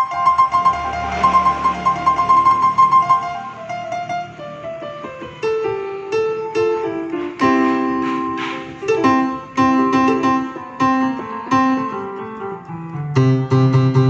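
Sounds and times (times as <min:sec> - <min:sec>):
piano-like keyboard melody: 0:00.0 - 0:14.0.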